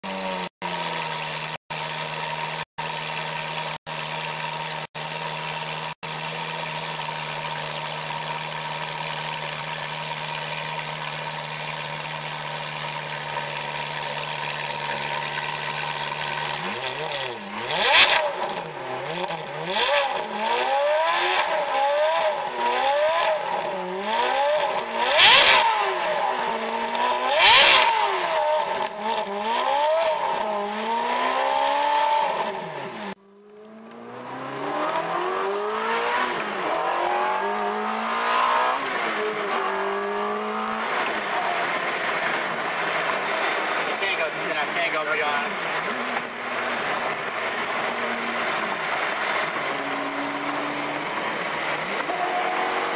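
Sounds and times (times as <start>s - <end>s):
sports car engine revving: 0.0s - 52.9s
exhaust cracks: 0.1s - 52.9s.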